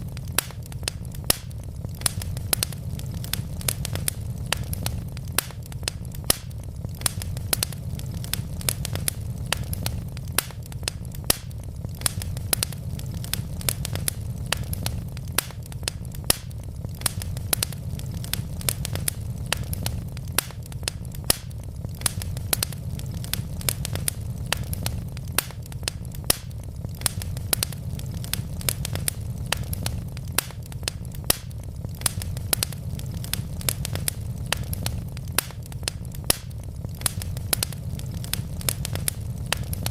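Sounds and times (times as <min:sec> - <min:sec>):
logs crackling and popping: 0:00.0 - 0:39.9
wood fire rumbling: 0:00.0 - 0:39.9.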